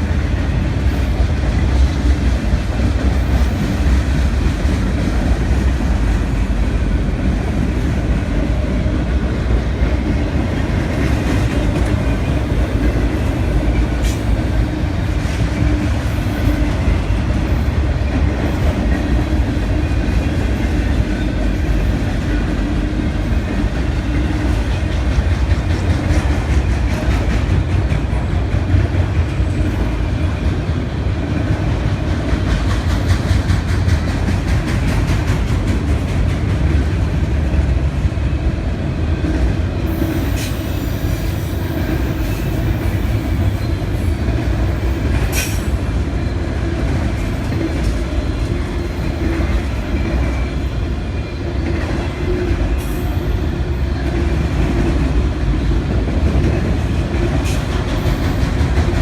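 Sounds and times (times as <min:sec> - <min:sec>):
freight train cars rumbling past: 0:00.0 - 0:59.0.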